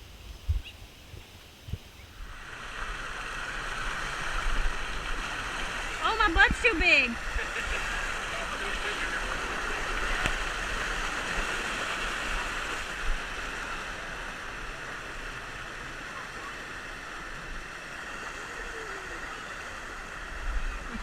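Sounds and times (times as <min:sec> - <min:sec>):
river water running: 0:00.0 - 0:21.0.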